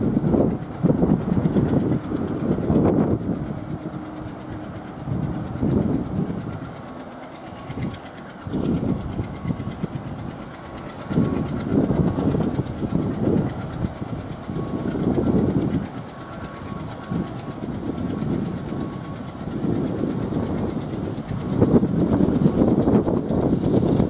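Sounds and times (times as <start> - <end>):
diesel locomotive engines throbbing: 0.0 - 24.0.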